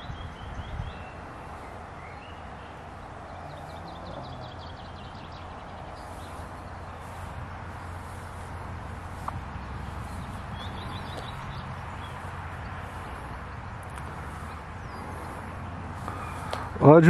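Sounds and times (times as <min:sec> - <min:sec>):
small birds chirping: 0:00.0 - 0:17.0
wind rumble on microphone: 0:00.0 - 0:17.0.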